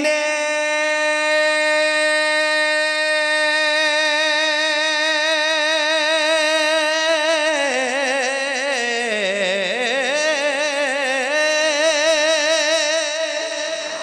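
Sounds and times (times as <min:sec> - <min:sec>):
man singing with vibrato: 0:00.0 - 0:14.0.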